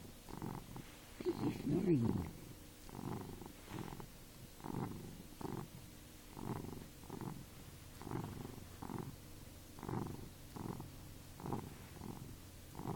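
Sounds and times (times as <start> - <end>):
pet snoring: 0.0 - 12.9.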